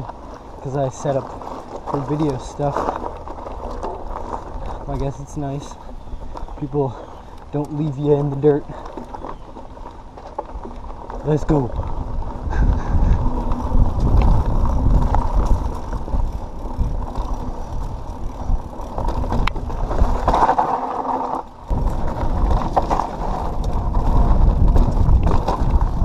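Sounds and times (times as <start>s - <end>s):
bike clicks and rattles: 0.0s - 26.0s
bike tyres rumbling on dirt: 0.0s - 26.0s.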